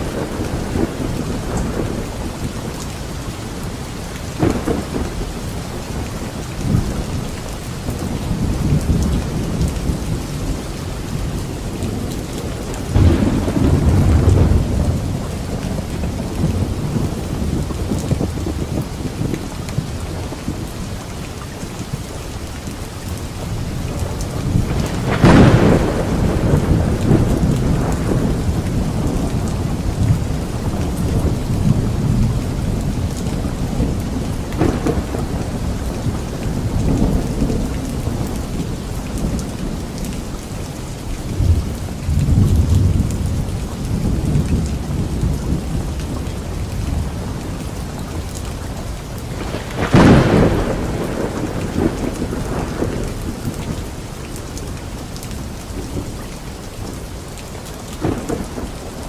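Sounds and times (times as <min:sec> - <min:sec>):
thunderclap: 0:00.0 - 0:02.9, 0:04.3 - 0:20.6, 0:23.7 - 0:40.0, 0:41.4 - 0:54.0, 0:58.0 - 0:59.0
thunder rumbling: 0:00.0 - 0:21.0, 0:23.0 - 0:59.0
steady rain: 0:00.0 - 0:59.0.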